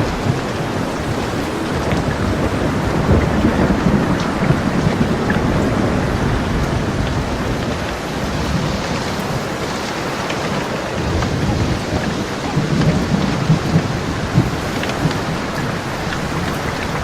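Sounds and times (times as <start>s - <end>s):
steady rain falling: 0.0s - 17.0s
thunder rolling low: 0.0s - 17.0s.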